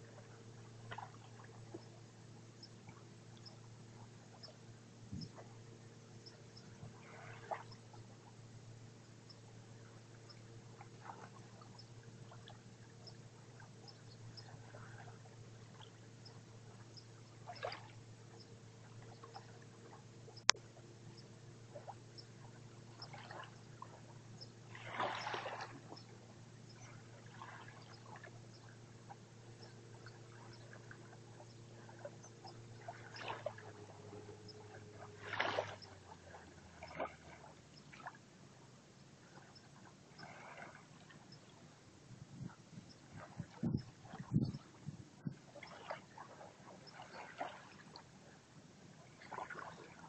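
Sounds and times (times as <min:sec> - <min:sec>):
sea lapping at shore: 0:00.0 - 0:50.0
steady low hum: 0:00.0 - 0:50.0.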